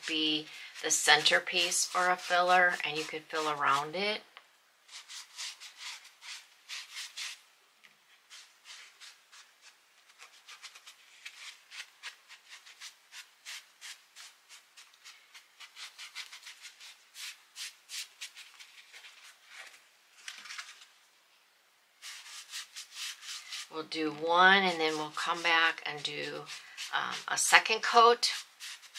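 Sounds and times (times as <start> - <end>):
sponge brush rubbing on fabric: 0.0 - 4.0, 4.9 - 7.4, 8.2 - 19.8, 22.0 - 28.9.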